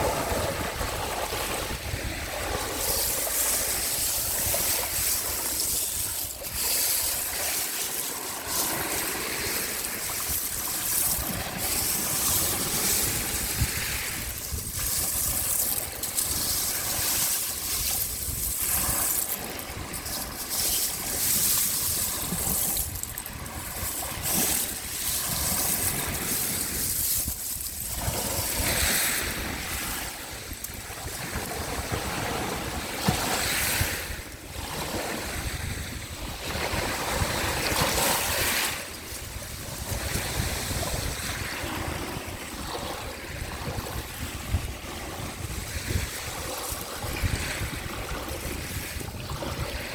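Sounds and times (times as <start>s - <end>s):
sea waves washing onto shore: 0.0s - 49.9s.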